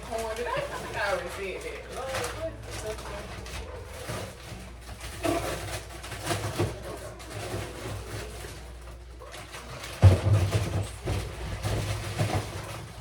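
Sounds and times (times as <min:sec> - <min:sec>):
packages rustling: 0:00.0 - 0:13.0.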